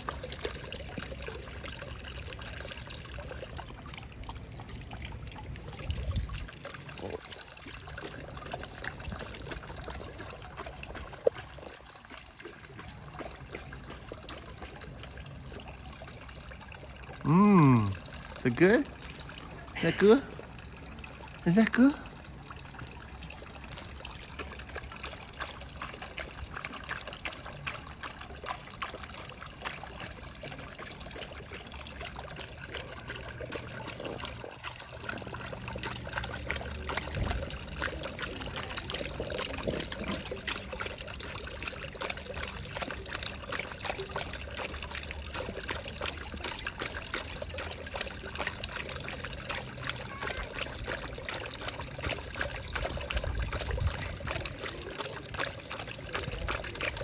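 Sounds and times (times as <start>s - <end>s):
dog drinking: 0.0s - 57.0s
water trickling and splashing: 0.0s - 57.0s.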